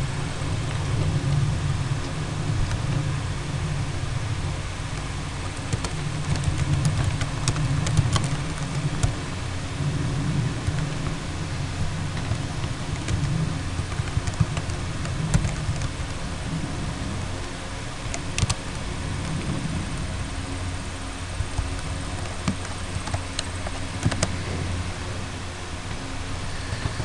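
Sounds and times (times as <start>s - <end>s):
background rumble and hum: 0.0s - 27.0s.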